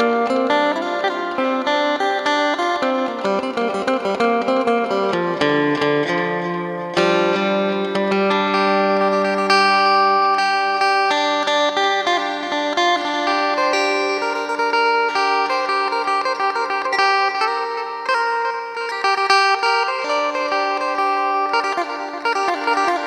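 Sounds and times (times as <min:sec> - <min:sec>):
plucked lute melody: 0:00.0 - 0:23.0.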